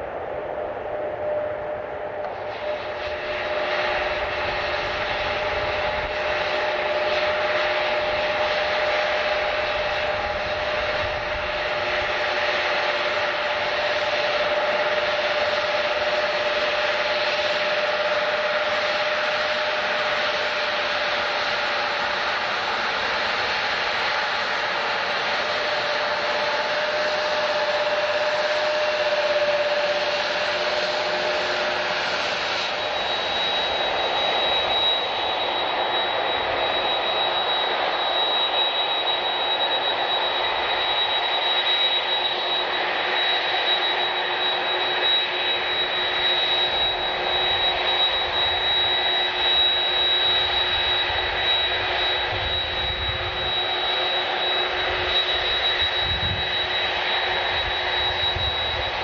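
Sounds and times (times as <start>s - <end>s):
high engine whine: 0.0s - 59.0s
jet engines running: 0.0s - 59.0s.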